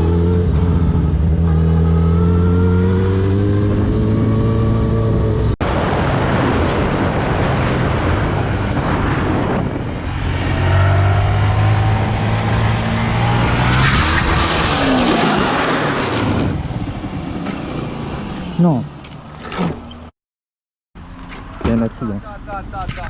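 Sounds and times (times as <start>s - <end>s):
wind and road noise: 0.0s - 20.1s, 21.0s - 23.0s.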